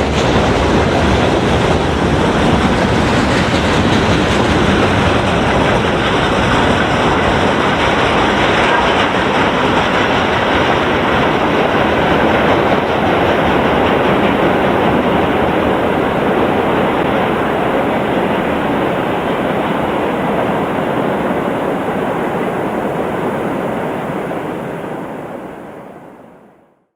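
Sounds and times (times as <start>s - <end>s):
freight train rumbling past: 0.0s - 26.4s.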